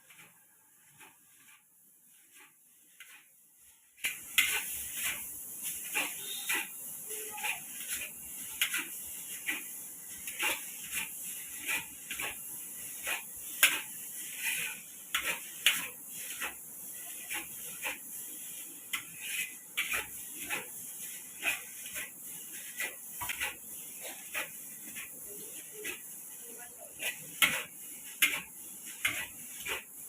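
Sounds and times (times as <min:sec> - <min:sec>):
steady hiss: 0:01.0 - 0:30.0.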